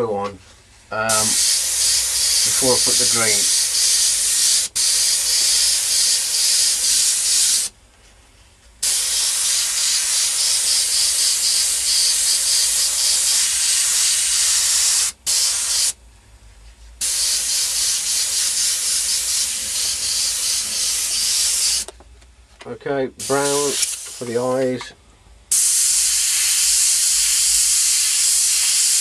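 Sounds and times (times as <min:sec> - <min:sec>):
airbrush spraying hiss: 0:01.1 - 0:07.7, 0:08.8 - 0:16.0, 0:17.0 - 0:21.9, 0:23.2 - 0:24.4, 0:25.5 - 0:29.0.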